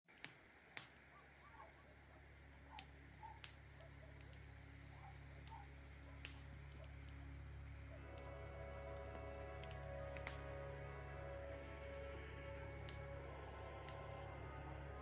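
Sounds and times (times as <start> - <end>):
low steady hum: 0.1 - 15.0.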